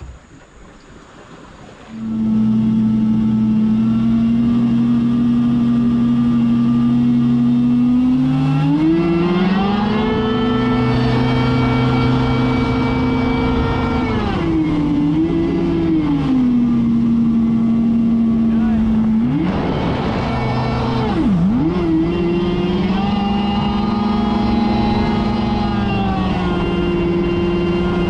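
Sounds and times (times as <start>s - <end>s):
boat engine running and revving: 0.0s - 28.0s.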